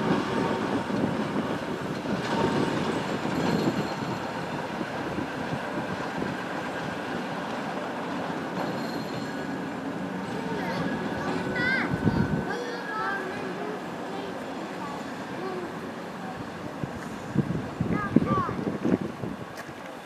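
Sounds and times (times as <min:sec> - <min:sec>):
wheels squealing on rails: 0:00.0 - 0:18.2
diesel locomotive engine rumbling: 0:00.0 - 0:20.0.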